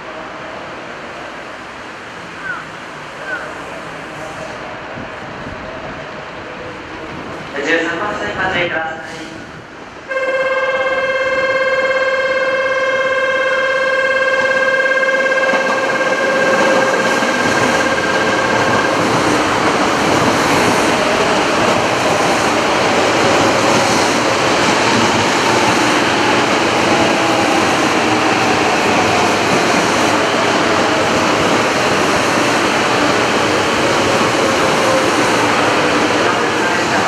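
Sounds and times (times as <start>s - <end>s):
train rushing past: 0.0s - 37.0s.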